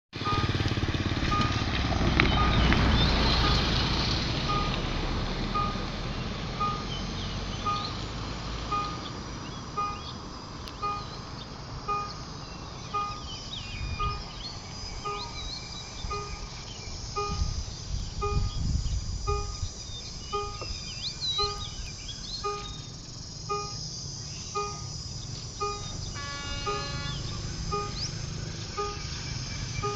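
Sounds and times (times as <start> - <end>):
level-crossing warning beeps: 0.2 - 0.7, 1.3 - 1.7, 2.3 - 3.8, 4.4 - 4.9, 5.5 - 5.9, 6.5 - 29.9
birds chirping: 0.2 - 29.9.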